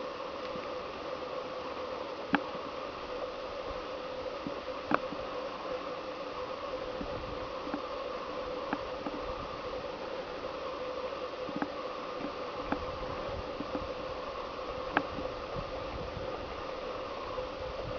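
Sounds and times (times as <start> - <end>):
background hiss: 0.0 - 17.9.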